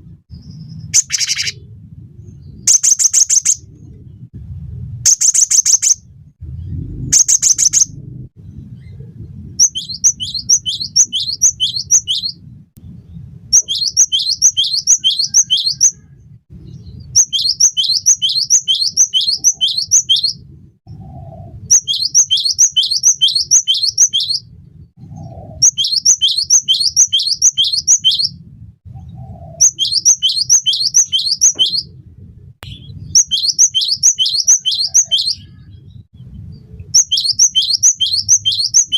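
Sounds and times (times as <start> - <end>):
low background rumble: 0.0 - 38.9.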